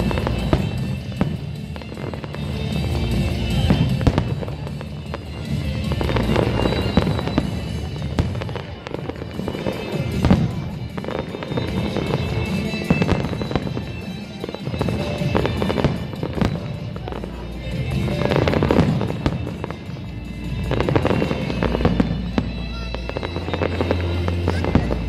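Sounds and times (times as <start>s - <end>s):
fireworks bursting: 0.0s - 25.0s
music playing: 0.0s - 25.0s.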